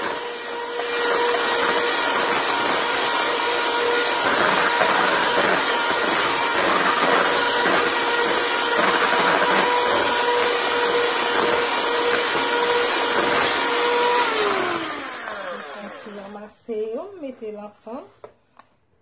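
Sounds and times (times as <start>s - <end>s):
electric hand mixer whining: 0.0s - 16.6s.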